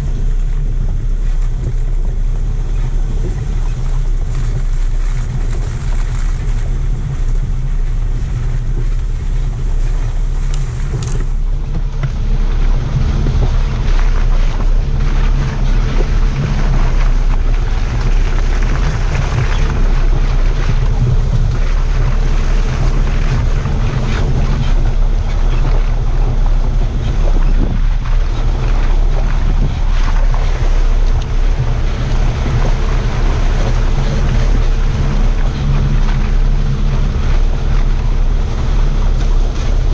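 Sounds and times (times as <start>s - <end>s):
off-road vehicle rumbling: 0.0s - 39.9s
wind buffeting microphone: 0.0s - 39.9s.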